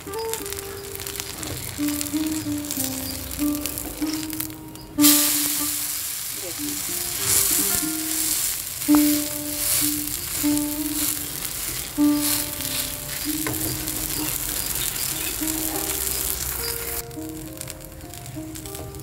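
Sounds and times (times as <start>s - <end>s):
flatbread sizzling in oil: 0.0s - 19.0s.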